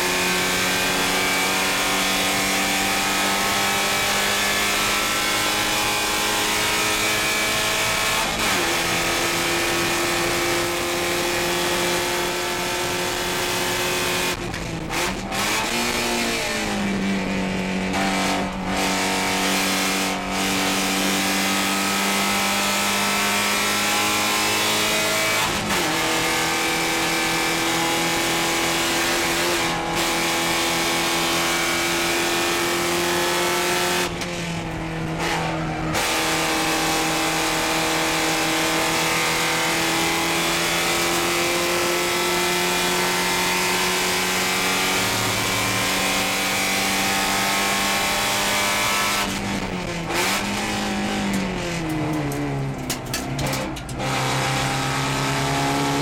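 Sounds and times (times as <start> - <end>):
race car engine running hard: 0.0 - 56.0
wind and road noise: 0.0 - 56.0.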